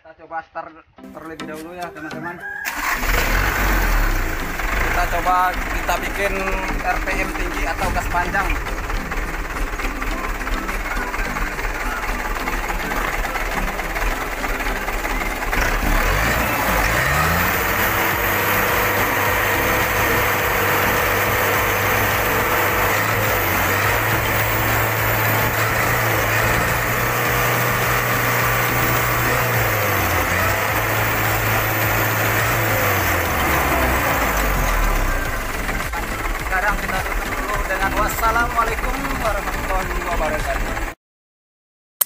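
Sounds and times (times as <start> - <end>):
diesel truck engine revving: 2.6 - 41.0.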